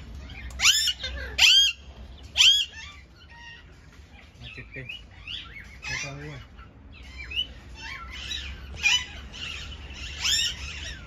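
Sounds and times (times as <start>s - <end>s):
caged birds chirping and squawking: 0.0s - 11.0s.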